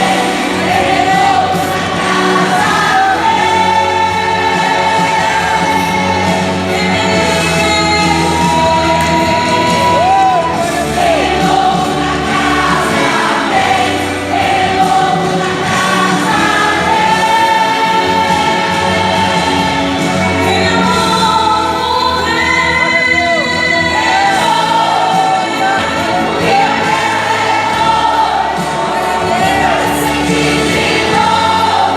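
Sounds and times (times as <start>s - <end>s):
choir singing with band: 0.0s - 31.9s.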